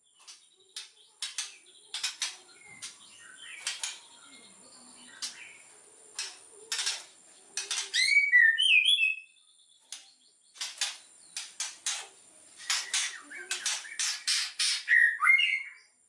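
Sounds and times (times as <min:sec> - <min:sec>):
bird raspy notes: 0:00.0 - 0:16.0.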